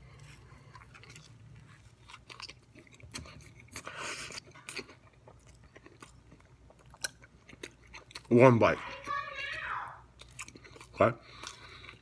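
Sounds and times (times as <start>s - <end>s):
man chewing pizza: 0.0s - 9.1s, 10.1s - 12.0s.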